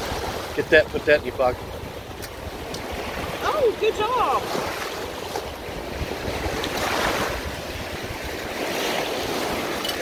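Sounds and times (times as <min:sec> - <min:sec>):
surf washing onto beach: 0:00.0 - 0:10.0
wind rumbling on microphone: 0:00.0 - 0:10.0.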